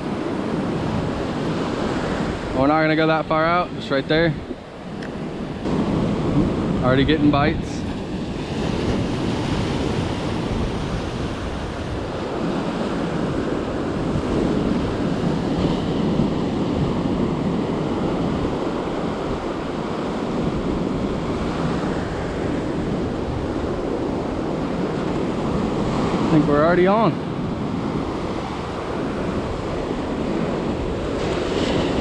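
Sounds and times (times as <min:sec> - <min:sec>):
ocean surf washing on beach: 0:00.0 - 0:32.0
wind rumbling on microphone: 0:00.0 - 0:32.0.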